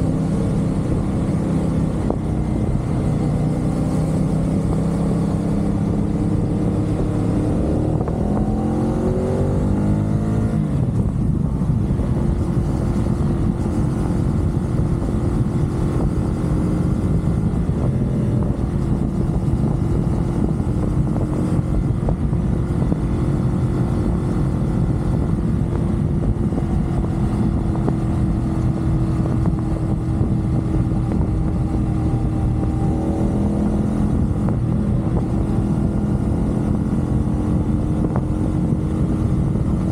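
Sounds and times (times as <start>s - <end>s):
motorcycle engine: 0.0s - 39.9s
wind and road rush: 0.0s - 39.9s.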